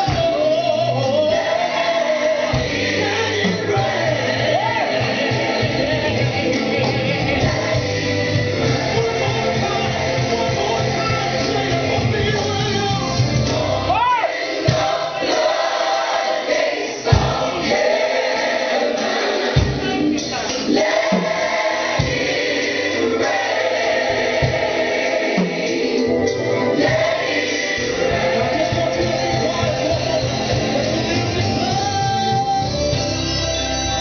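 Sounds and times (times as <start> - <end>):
gospel choir singing: 0.0 - 34.0
live band playing: 0.0 - 34.0.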